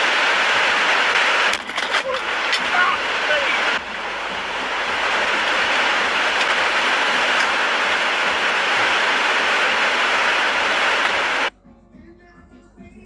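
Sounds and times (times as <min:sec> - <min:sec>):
loud steady rushing noise: 0:00.0 - 0:11.5.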